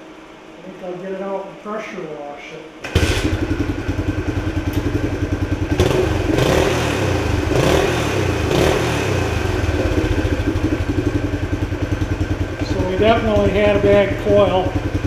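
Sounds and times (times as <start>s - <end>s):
engine throttle blips: 2.8s - 15.0s
motorcycle engine running: 2.9s - 15.0s.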